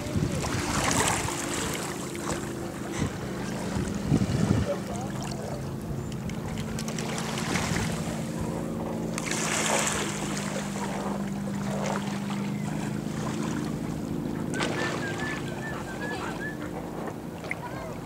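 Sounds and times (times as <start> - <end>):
motorboat engine drone: 0.0 - 18.0.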